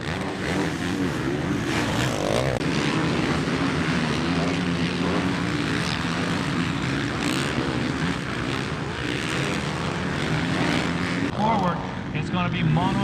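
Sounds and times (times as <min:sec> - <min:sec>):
motocross bike engines droning: 0:00.0 - 0:13.0.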